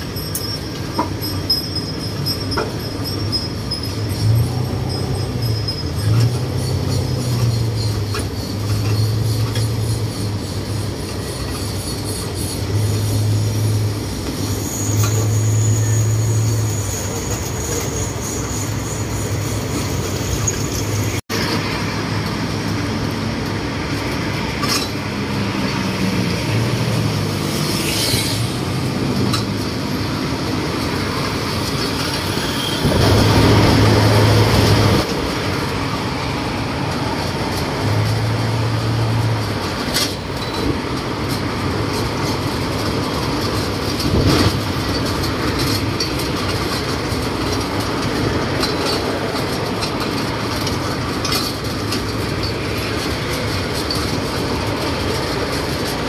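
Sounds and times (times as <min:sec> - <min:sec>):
surrounding traffic: 0:00.0 - 0:56.0
tyre and wind noise: 0:00.0 - 0:56.0.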